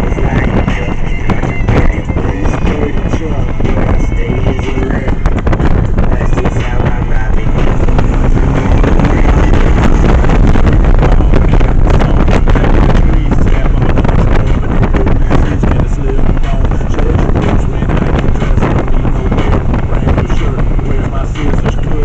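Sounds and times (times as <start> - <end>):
motorcycle engine and road noise: 0.0 - 22.0
wind buffeting microphone: 0.0 - 22.0.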